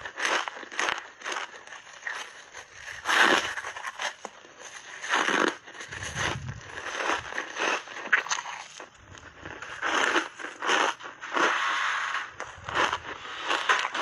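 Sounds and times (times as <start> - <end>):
crunching and chewing ice: 0.0 - 14.0.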